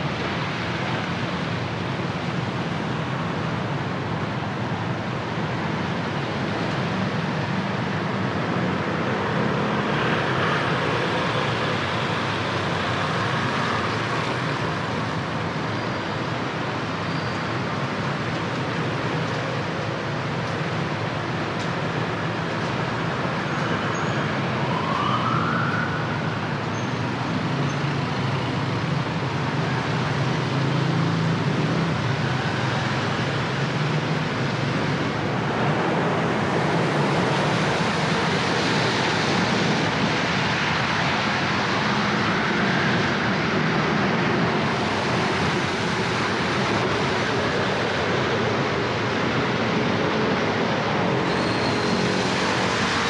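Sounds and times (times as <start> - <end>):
car engines: 0.0 - 53.0
tyres on wet road: 0.0 - 53.0.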